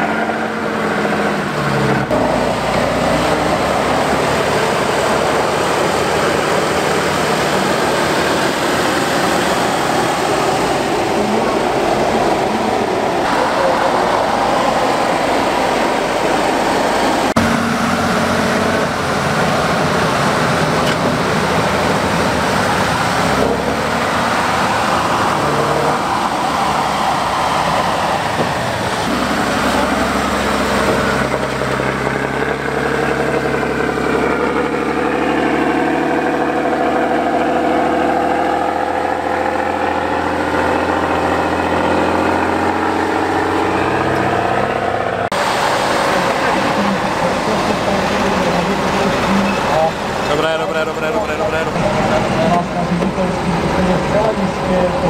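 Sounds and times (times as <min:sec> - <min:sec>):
truck diesel engine revving: 0:00.0 - 0:55.0.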